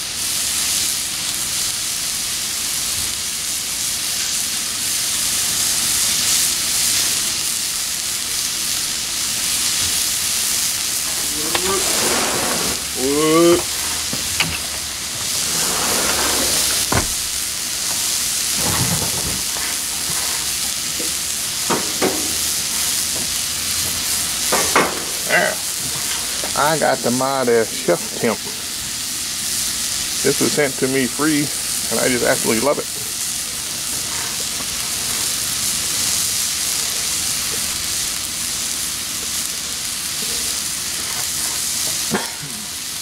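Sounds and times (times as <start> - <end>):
steak sizzling on a griddle: 0.0 - 43.0.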